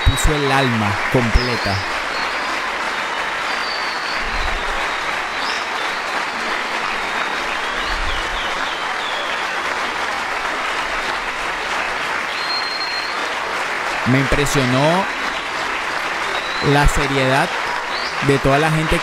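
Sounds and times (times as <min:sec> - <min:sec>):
audience applause: 0:00.0 - 0:19.0.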